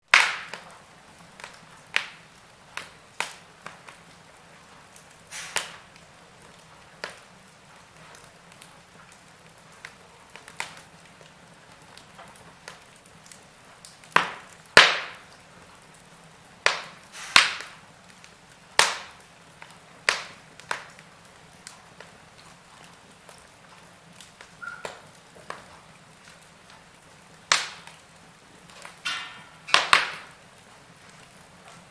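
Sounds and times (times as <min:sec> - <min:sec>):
faint steady hiss: 0:00.0 - 0:31.9
wood fire crackling: 0:00.0 - 0:31.9.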